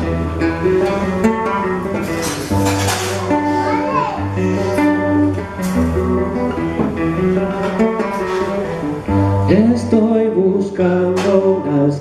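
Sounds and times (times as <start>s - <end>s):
acoustic guitar picking and strumming: 0.0s - 12.0s.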